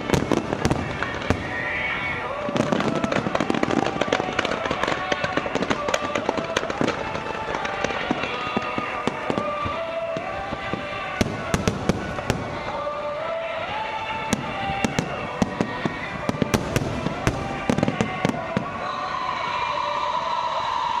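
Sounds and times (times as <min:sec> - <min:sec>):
fireworks bangs and crackles: 0:00.0 - 0:20.7.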